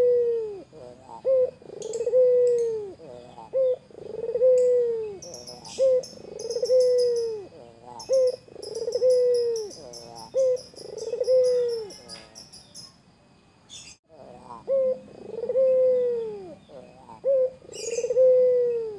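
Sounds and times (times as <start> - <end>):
dove cooing: 0.0 - 12.4, 14.1 - 18.9
small birds chirping: 0.5 - 18.9.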